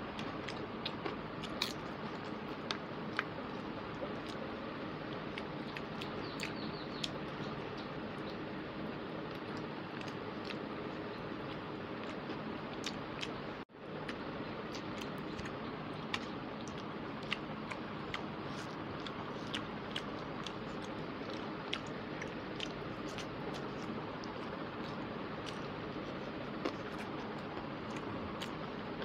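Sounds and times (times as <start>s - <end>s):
chewing and mouth smacks: 0.1s - 4.5s, 5.1s - 8.4s, 9.3s - 10.7s, 11.4s - 29.0s.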